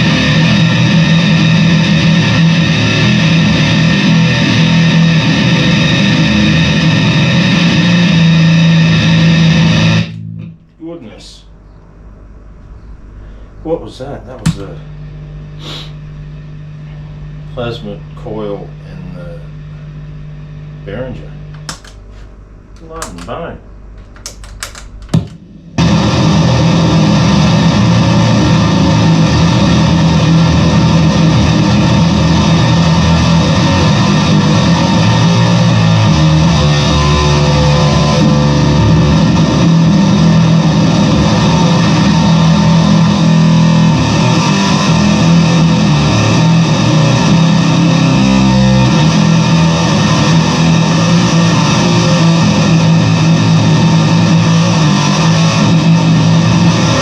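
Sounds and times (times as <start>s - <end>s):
distorted bass guitar: 0.0s - 10.8s, 12.0s - 21.9s, 22.6s - 57.0s.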